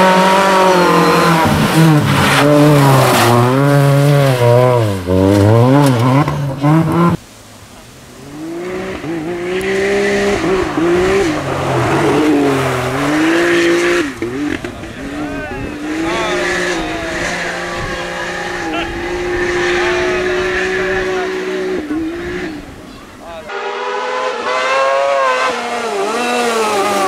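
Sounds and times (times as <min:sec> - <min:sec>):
rally car engine revving: 0:00.0 - 0:07.2, 0:08.2 - 0:27.0
off-road buggy engine: 0:00.0 - 0:27.0.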